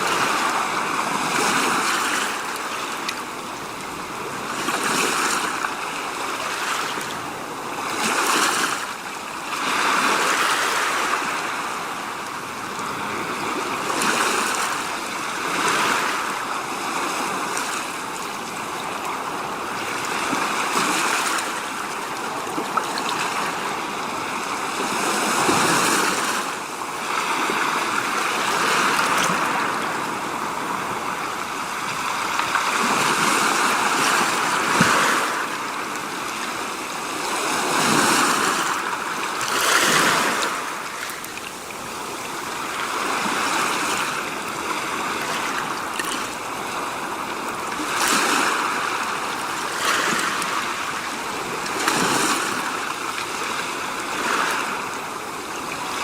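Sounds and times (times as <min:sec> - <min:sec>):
rushing water-like noise: 0:00.0 - 0:56.0.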